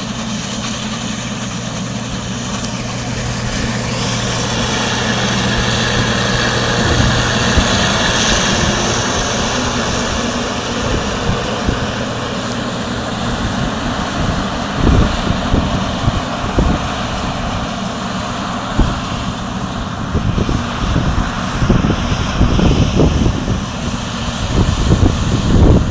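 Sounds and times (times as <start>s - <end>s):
combine harvester engine hum: 0.0s - 25.9s.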